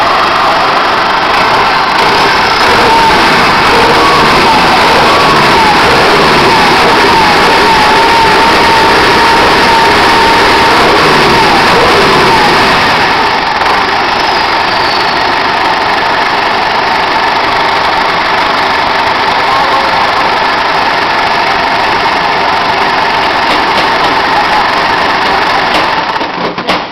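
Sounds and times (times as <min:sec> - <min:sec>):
high whine: 0:00.0 - 0:26.1
engine running loudly: 0:00.0 - 0:26.4.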